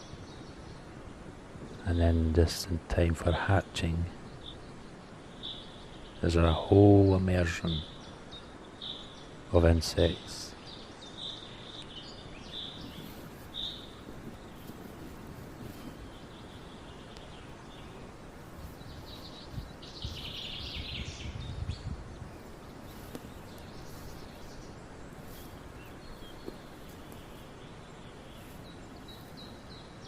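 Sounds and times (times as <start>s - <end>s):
outdoor background noise: 0.0s - 30.0s
wild birds chirping: 0.0s - 30.0s.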